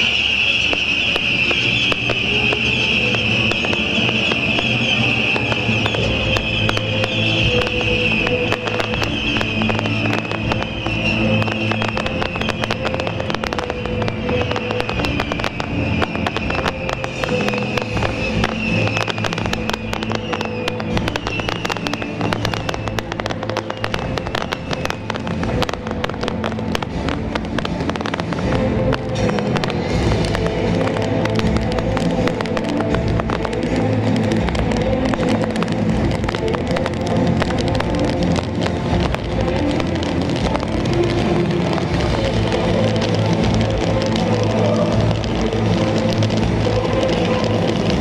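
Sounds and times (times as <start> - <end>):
fireworks crackling bangs: 0.0 - 48.0
music: 0.0 - 48.0.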